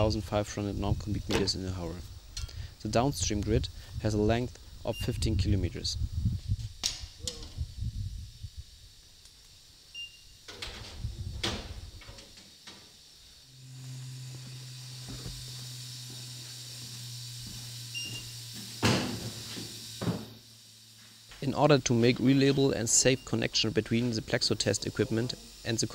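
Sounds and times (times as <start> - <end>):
low hum with faint hiss: 0.0 - 25.9.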